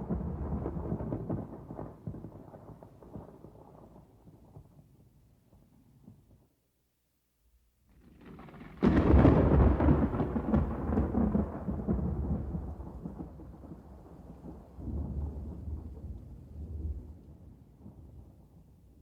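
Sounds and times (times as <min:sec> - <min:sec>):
thunder rumbling and cracking: 0:00.0 - 0:04.8, 0:08.0 - 0:18.8.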